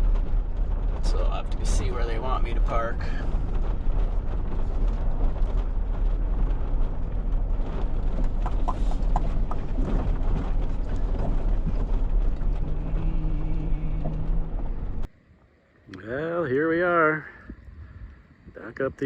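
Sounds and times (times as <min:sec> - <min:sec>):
low steady hum: 0:00.0 - 0:19.0
vehicle low rumble: 0:00.0 - 0:19.0.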